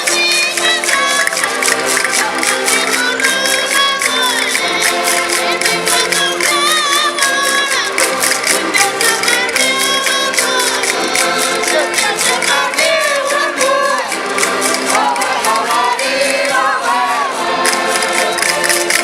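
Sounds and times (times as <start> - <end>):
accordions playing chords: 0.0 - 19.0
ticking beat: 0.0 - 19.0
women singing together: 0.0 - 19.0.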